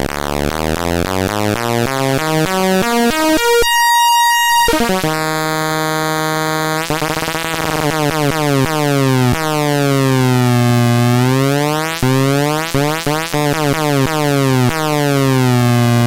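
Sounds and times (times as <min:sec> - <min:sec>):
buzzy electronic synth tone: 0:01.8 - 0:16.0.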